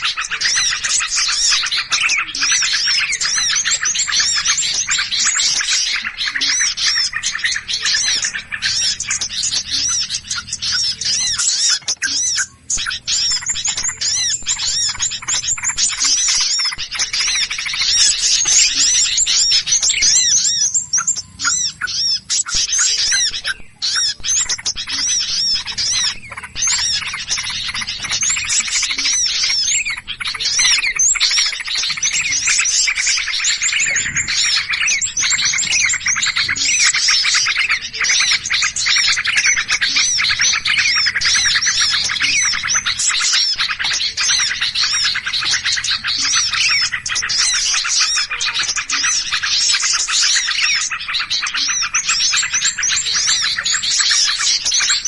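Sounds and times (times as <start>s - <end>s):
songbirds chattering: 0.0s - 55.0s.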